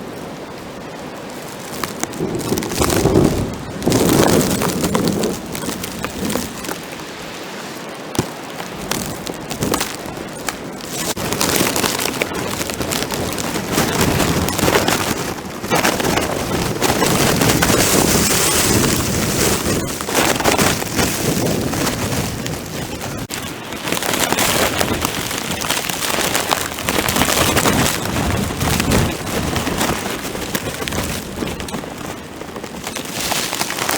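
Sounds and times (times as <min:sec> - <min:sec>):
plastic bag crinkling on microphone: 0:01.4 - 0:07.1, 0:08.2 - 0:33.9.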